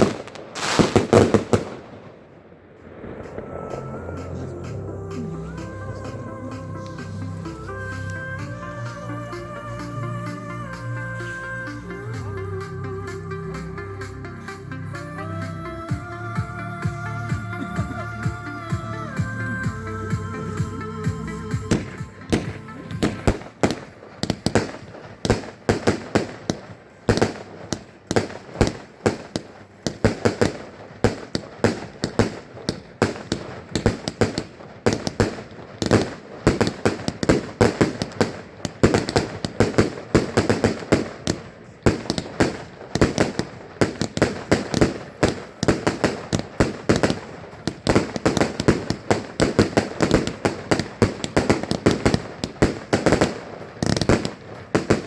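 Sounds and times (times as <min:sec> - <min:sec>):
fireworks bangs and pops: 0:00.0 - 0:12.3, 0:13.1 - 0:55.0
fireworks crackle: 0:00.0 - 0:55.0.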